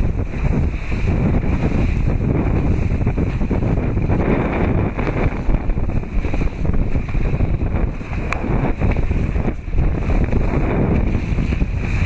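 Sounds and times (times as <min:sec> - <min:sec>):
rushing sea water: 0:00.0 - 0:12.0
wind buffeting microphone: 0:00.0 - 0:12.0.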